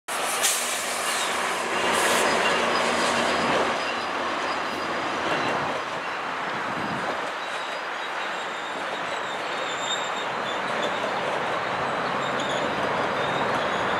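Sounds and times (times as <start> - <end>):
train wheels rumbling on rail: 0.1 - 13.9
wheels clacking over rail joints: 0.4 - 13.9
faint high wheel squeal: 0.6 - 13.9.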